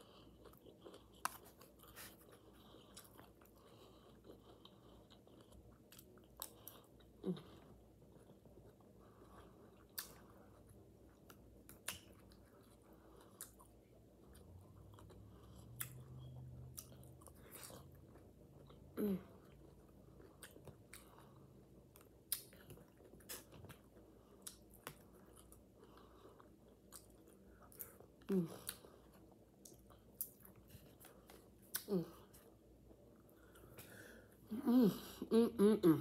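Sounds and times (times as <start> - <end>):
person chewing and mouth-smacking: 0.0 - 34.1.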